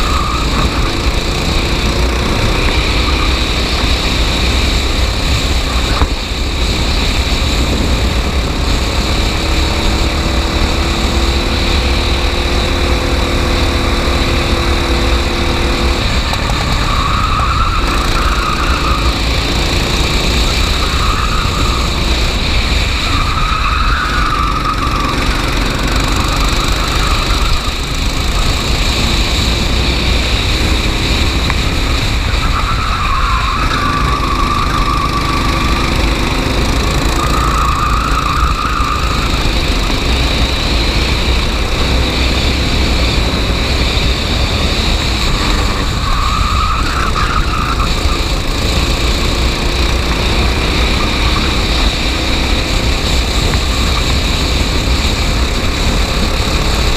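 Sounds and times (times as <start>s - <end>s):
racing kart engine: 0.0s - 56.9s.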